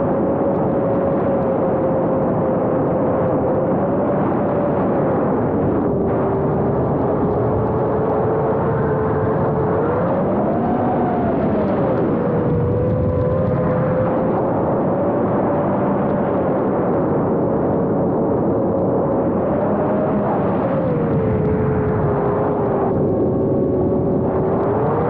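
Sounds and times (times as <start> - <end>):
drone motors buzzing whine: 0.1 - 25.0.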